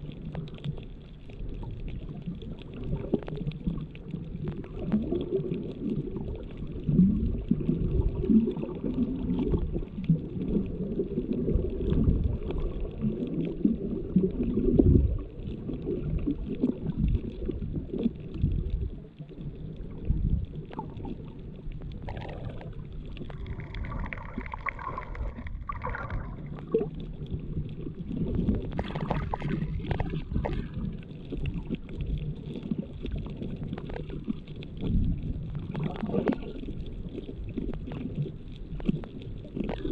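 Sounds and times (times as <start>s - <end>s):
underwater churning rumble: 0.0s - 39.9s.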